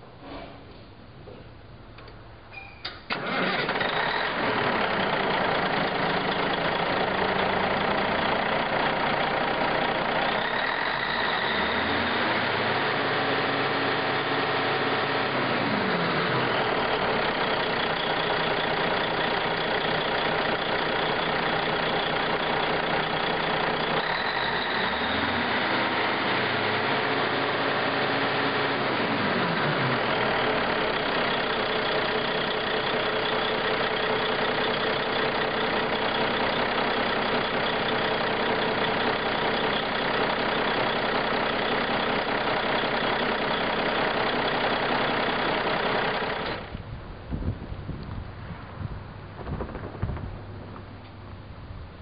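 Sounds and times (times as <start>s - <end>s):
diesel engine starting and revving: 1.6s - 52.0s.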